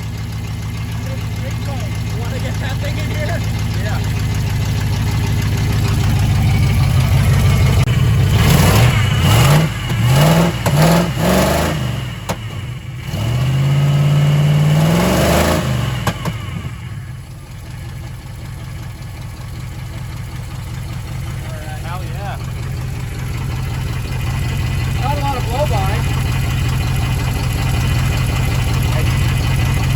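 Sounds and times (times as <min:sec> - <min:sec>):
pickup truck engine revving: 0:00.0 - 0:17.8, 0:20.0 - 0:29.9.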